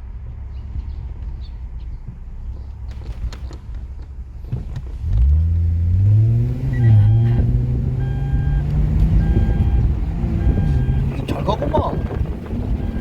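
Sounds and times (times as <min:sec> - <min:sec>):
low road rumble: 0:00.0 - 0:13.0
car engine pulling away: 0:00.5 - 0:13.0.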